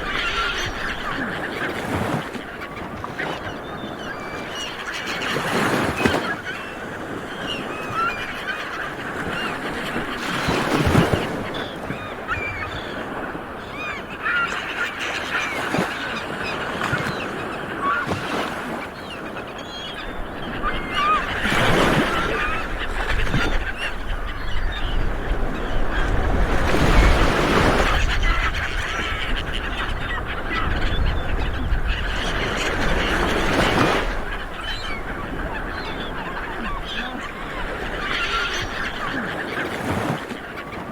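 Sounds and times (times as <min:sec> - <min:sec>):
seabirds honking: 0:00.0 - 0:40.9.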